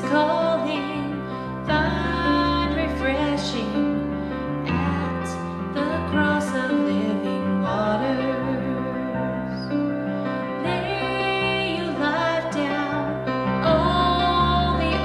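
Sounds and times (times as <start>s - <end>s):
woman singing: 0.0s - 9.9s, 10.6s - 15.0s.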